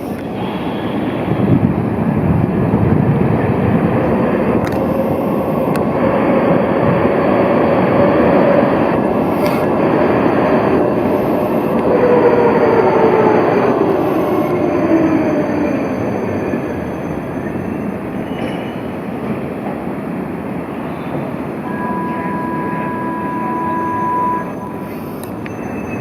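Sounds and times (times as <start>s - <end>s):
tram rumbling past: 0.0s - 26.0s
tram whine: 0.0s - 26.0s.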